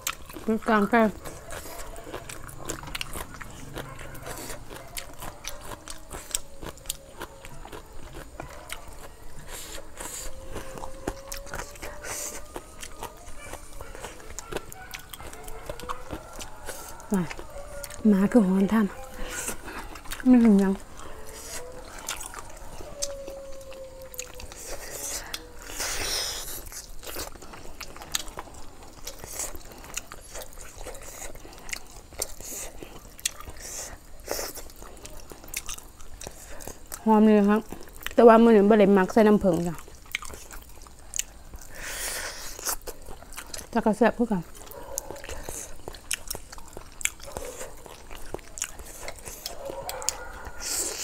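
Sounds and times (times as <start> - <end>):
chewing and crunching: 0.0 - 51.0.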